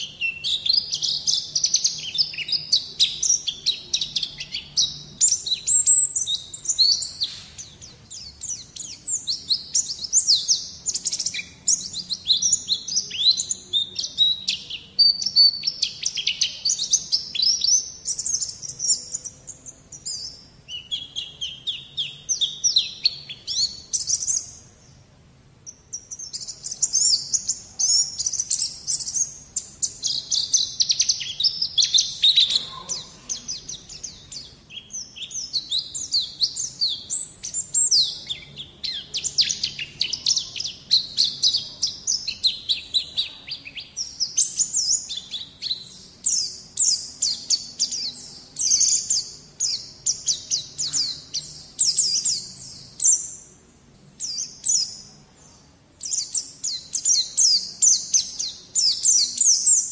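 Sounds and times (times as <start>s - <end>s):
bird twittering high chirps: 0.0s - 59.9s.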